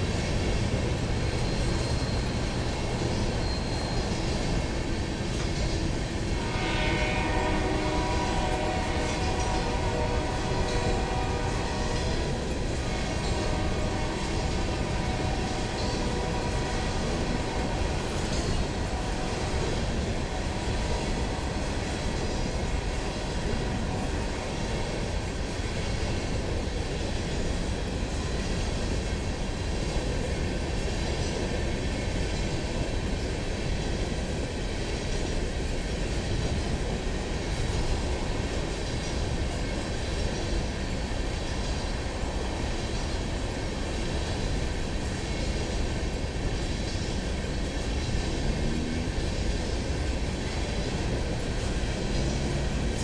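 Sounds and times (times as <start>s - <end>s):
freight cars rolling on rails: 0.0s - 53.0s.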